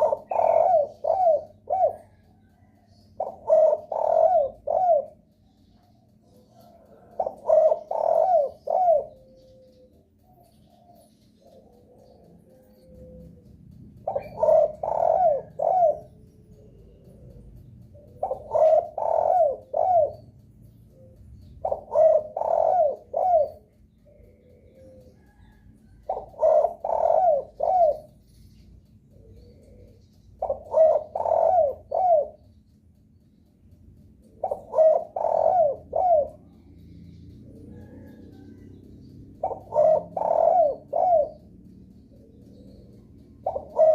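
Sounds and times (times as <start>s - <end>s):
dove cooing: 0.0s - 28.4s, 29.0s - 32.6s, 34.0s - 43.9s.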